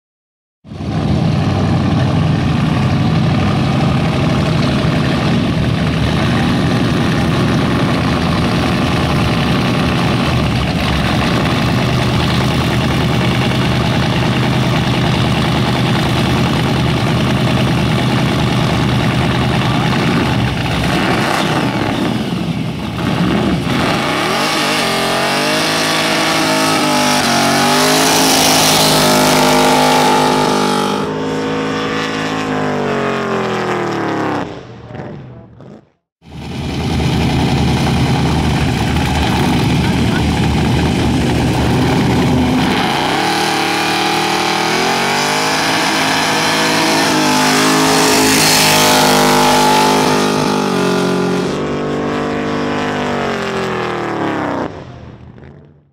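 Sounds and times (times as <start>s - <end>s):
car engine revving: 0.8s - 55.9s.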